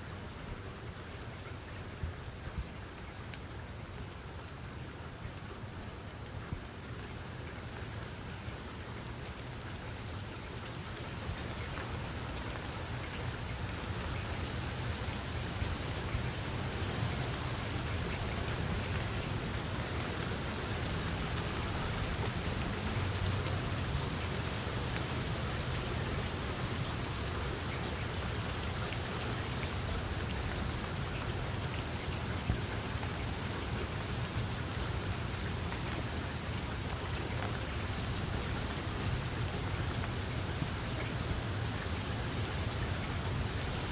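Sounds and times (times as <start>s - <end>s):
steady rain: 0.0s - 43.9s
raindrops ticking: 6.6s - 43.8s.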